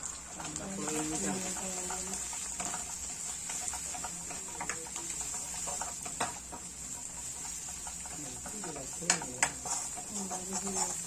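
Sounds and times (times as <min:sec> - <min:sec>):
utensil tapping cooking pan: 0:00.0 - 0:11.0.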